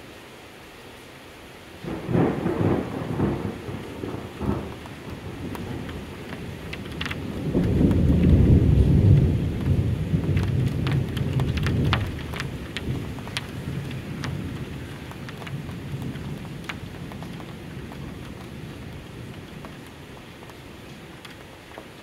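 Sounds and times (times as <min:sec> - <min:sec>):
steady rain: 0:00.0 - 0:22.0
thunder rumbling: 0:01.8 - 0:21.4
raindrops ticking on window glass: 0:01.8 - 0:22.0.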